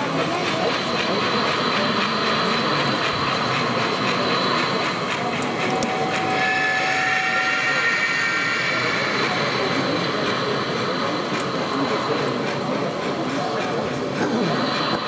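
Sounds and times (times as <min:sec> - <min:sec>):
model train rolling with hiss: 0:00.0 - 0:15.0
steady high tones: 0:00.7 - 0:13.6.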